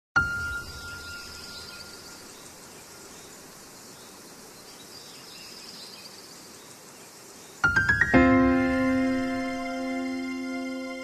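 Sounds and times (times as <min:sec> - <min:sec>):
faint steady hiss: 0:00.2 - 0:11.0.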